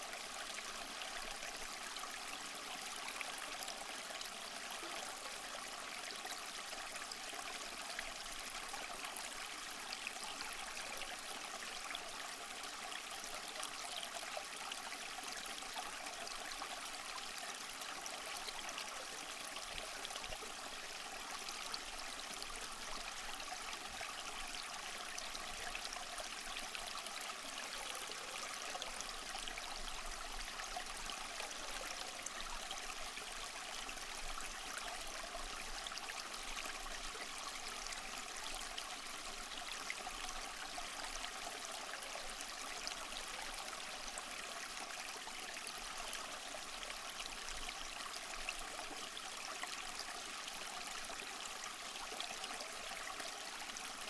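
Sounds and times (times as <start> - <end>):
small waterfall splashing over rocks: 0.0 - 54.0.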